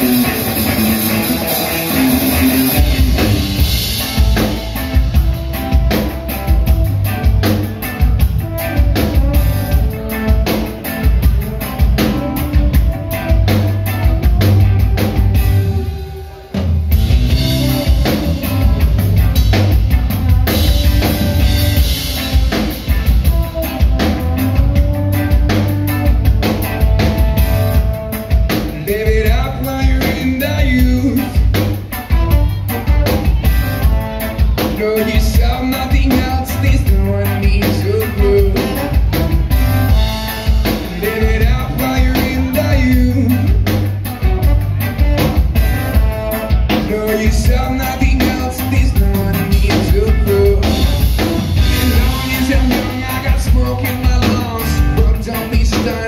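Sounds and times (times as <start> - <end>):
drum kit beat: 0.0 - 56.0
live band music: 0.0 - 56.0.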